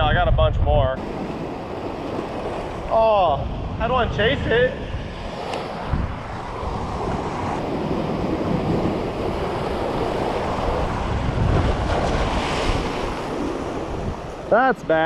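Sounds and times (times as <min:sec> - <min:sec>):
wind buffeting microphone: 0:00.0 - 0:15.0
surf breaking over rocks: 0:01.0 - 0:15.0.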